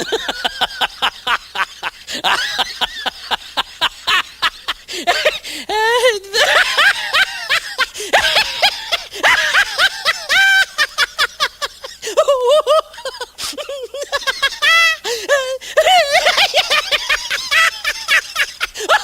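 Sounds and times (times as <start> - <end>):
man laughing uncontrollably: 0.0 - 19.0.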